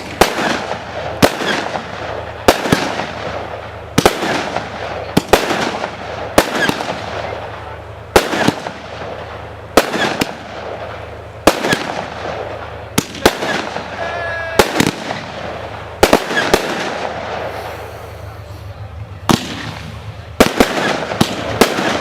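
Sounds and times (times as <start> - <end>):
firework double bangs: 0.0 - 22.0
firework hiss: 0.0 - 22.0.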